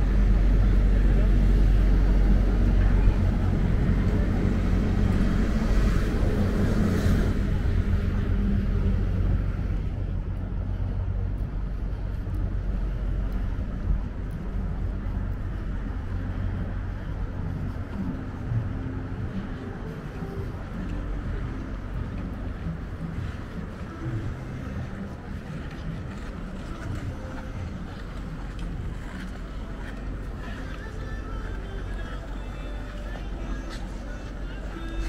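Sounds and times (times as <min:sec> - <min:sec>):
low rumble of cars: 0:00.0 - 0:35.0
road noise: 0:00.0 - 0:35.0.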